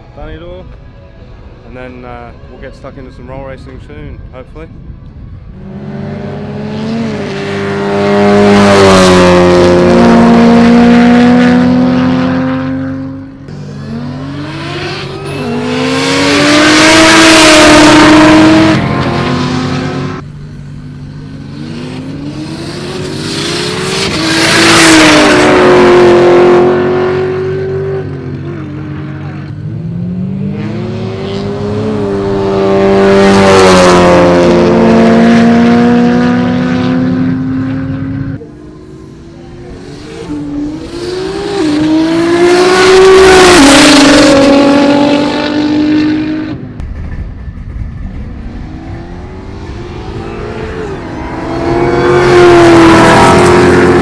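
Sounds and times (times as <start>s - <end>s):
race cars accelerating past: 5.5s - 46.8s, 48.4s - 54.0s.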